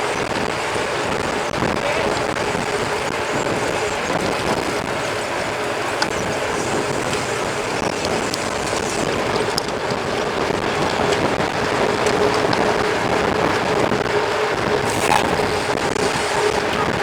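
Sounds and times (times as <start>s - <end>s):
bike tyres rolling: 0.0s - 17.0s.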